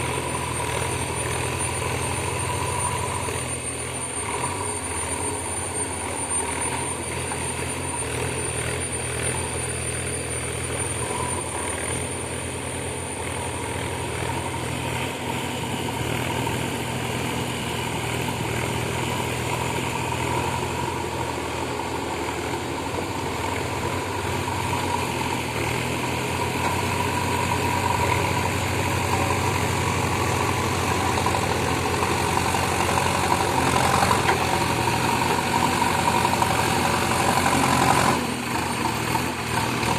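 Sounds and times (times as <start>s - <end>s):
digger diesel engine running: 0.0s - 39.9s.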